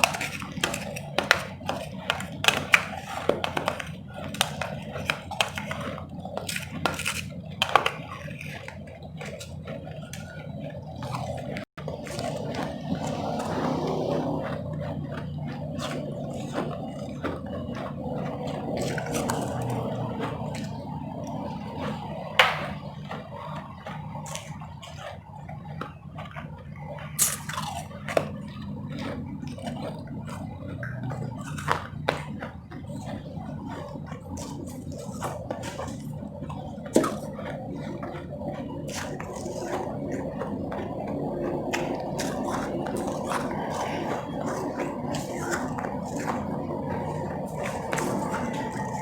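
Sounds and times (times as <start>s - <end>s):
ice crunching and chewing: 0.0s - 49.0s
steady low hum: 0.0s - 49.0s.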